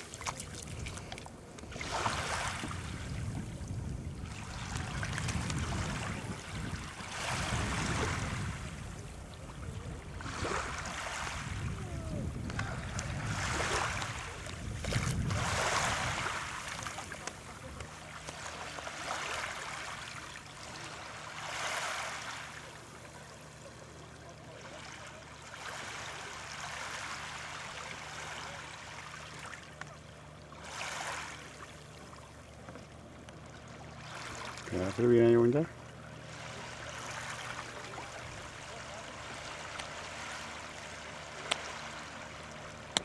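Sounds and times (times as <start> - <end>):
small waves breaking on shore: 0.0 - 43.0.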